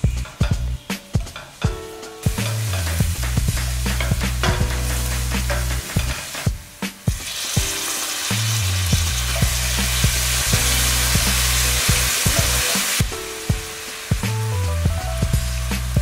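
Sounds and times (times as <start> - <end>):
background music bass line: 0.0 - 16.0
vegetables sizzling in a pan: 0.0 - 16.0.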